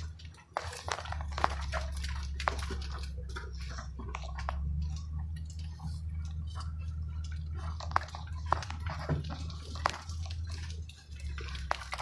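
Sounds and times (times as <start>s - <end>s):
brush crackling against truck: 0.0s - 12.0s
truck engine droning: 0.0s - 12.0s.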